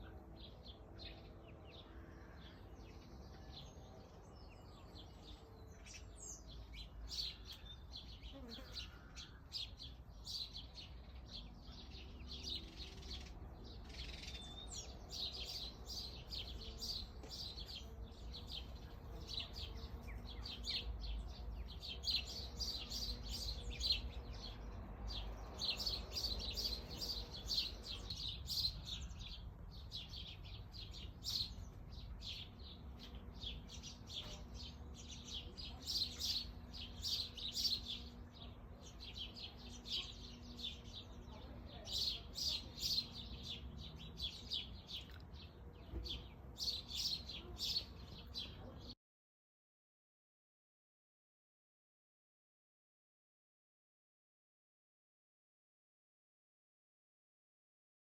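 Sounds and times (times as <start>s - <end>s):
songbirds twittering: 0.0s - 49.0s.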